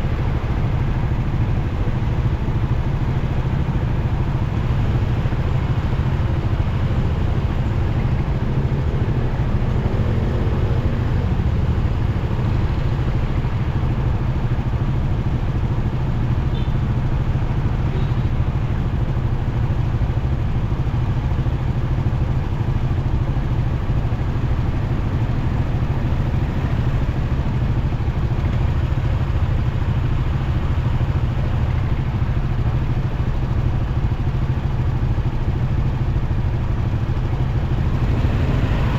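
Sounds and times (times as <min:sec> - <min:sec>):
road noise: 0:00.0 - 0:38.9.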